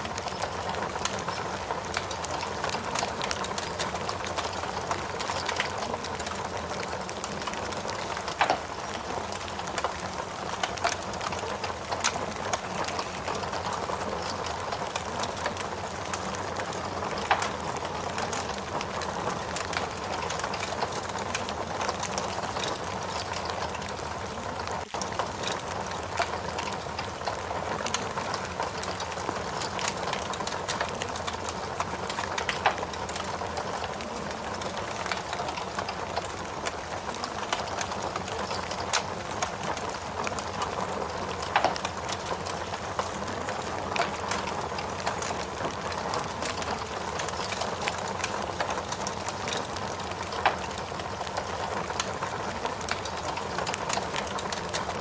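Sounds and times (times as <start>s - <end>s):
fire crackling and popping: 0.0s - 55.0s
rain hiss: 0.0s - 55.0s.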